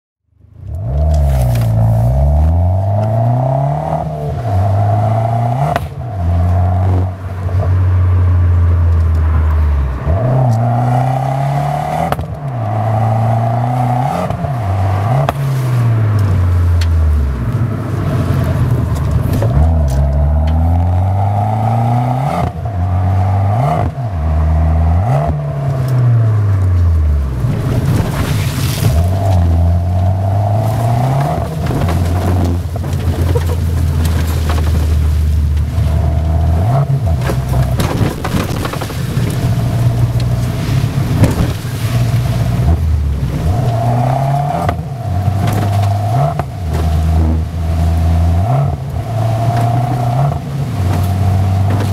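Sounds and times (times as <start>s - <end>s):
car engine accelerating through gears: 0.6s - 51.9s.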